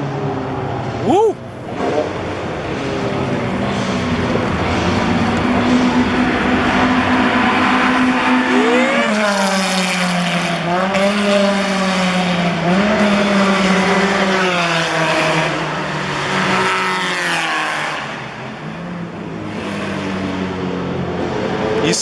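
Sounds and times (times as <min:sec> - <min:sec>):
car engine revving high: 0:00.8 - 0:21.7.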